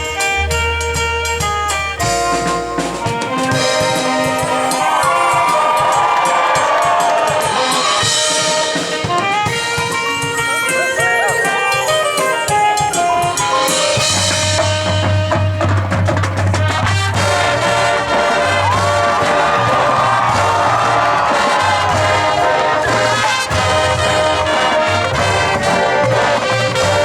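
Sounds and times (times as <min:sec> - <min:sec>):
marching band playing: 0:00.0 - 0:27.0
sharp drum strokes: 0:00.0 - 0:27.0.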